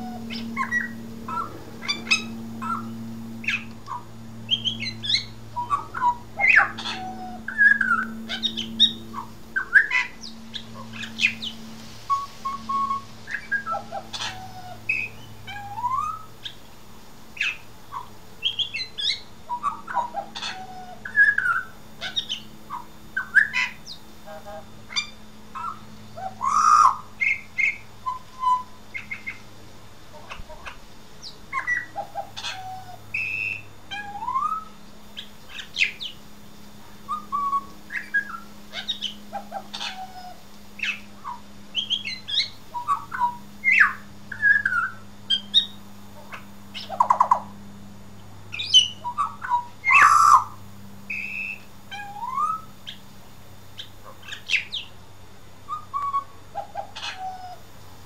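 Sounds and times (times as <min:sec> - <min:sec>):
bird song with whistled notes: 0:00.0 - 0:16.7, 0:17.3 - 0:24.1, 0:24.9 - 0:29.5, 0:31.2 - 0:36.2, 0:37.0 - 0:47.6, 0:48.5 - 0:53.0, 0:53.8 - 0:55.0, 0:55.6 - 0:57.6.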